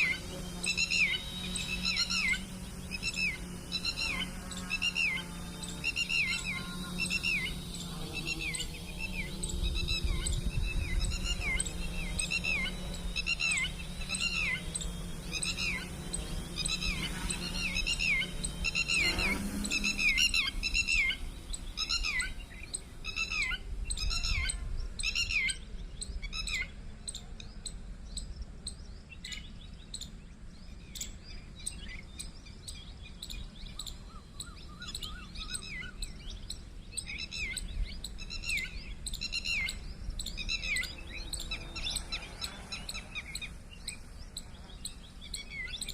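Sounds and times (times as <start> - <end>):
bird chirping: 0.0 - 45.9
low steady hum: 0.0 - 45.9.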